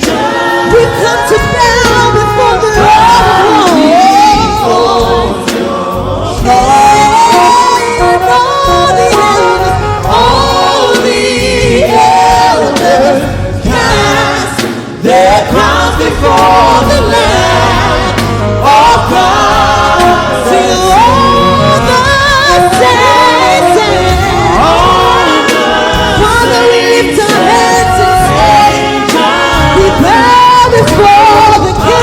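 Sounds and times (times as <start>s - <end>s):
band accompaniment: 0.0s - 32.0s
group of voices singing: 0.0s - 32.0s.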